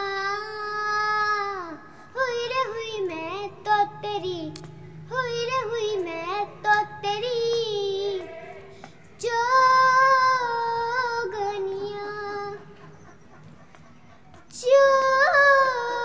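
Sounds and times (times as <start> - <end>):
girl singing worship song: 0.0 - 16.0.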